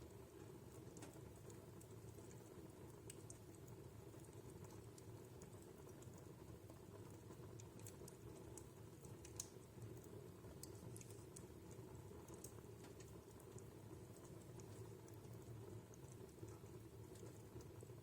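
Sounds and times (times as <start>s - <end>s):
wood fire crackling: 0.0s - 18.0s
fire pops and snaps: 0.3s - 17.8s.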